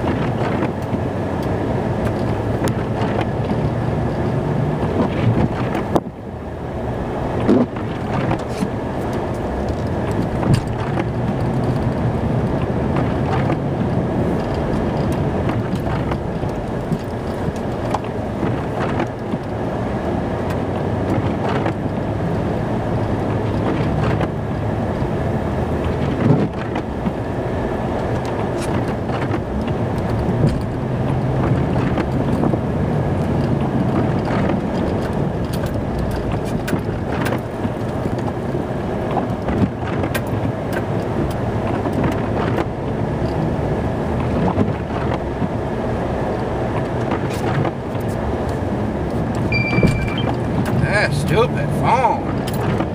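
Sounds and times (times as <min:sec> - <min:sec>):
snow plow truck running: 0:00.0 - 0:52.9.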